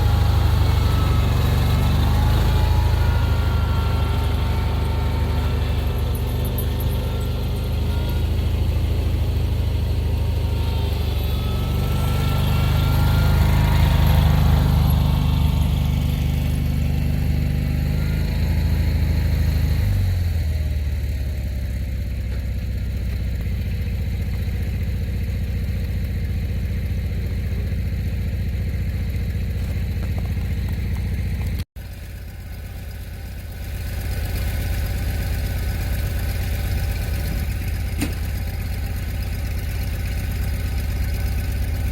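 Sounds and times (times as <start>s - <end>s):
vehicle engine revving then idling: 0.0s - 41.9s.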